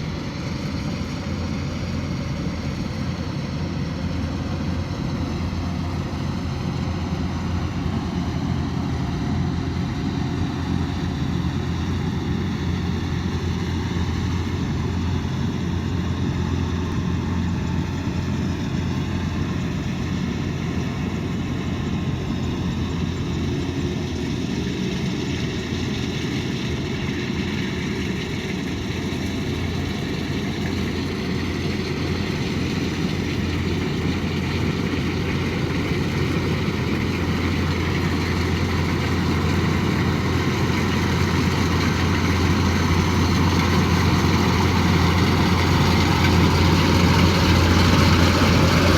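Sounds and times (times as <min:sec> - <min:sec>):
combine harvester engine droning: 0:00.0 - 0:48.9.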